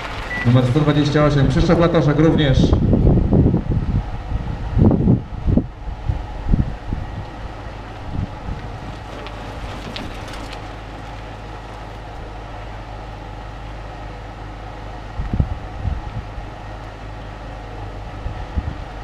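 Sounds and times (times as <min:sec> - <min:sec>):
wind buffeting microphone: 0:00.0 - 0:12.5, 0:15.1 - 0:16.7, 0:17.8 - 0:19.0
low rumble and hum: 0:00.0 - 0:19.0.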